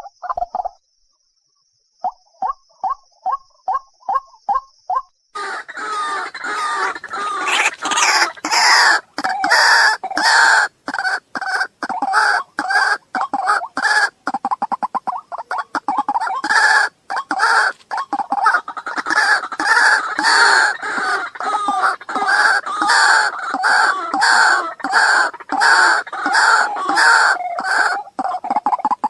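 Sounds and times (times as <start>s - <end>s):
waterhen croaking calls: 5.4s - 29.0s.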